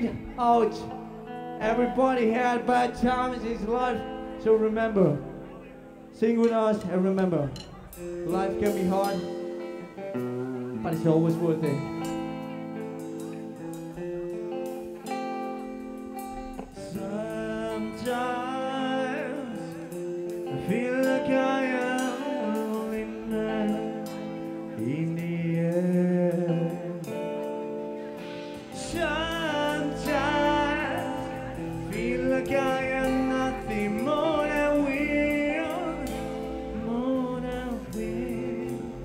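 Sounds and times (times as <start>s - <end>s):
clean electric guitar notes: 0.0s - 39.0s
person singing: 0.0s - 39.0s
rock band playing live: 0.0s - 39.0s.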